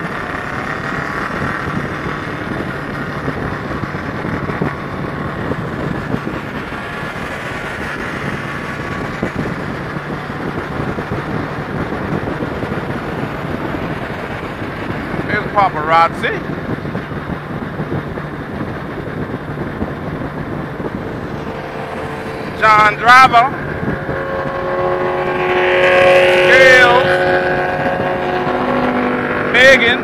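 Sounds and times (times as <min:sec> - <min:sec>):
motorcycle engine: 0:00.0 - 0:30.0
wind buffeting microphone: 0:00.0 - 0:30.0.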